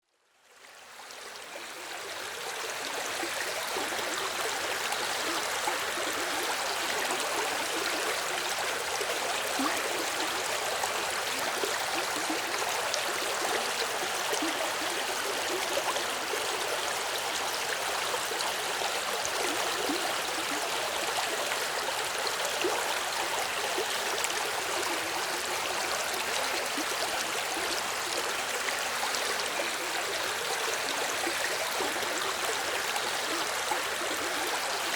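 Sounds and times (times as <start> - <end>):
stream flowing over stones: 0.3 - 34.9.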